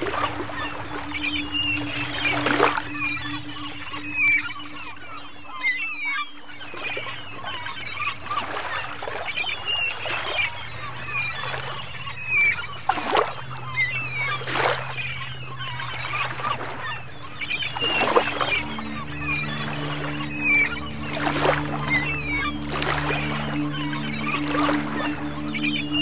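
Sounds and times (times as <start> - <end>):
low steady hum: 0.0 - 8.5, 9.2 - 26.0
gulls squawking: 0.0 - 26.0.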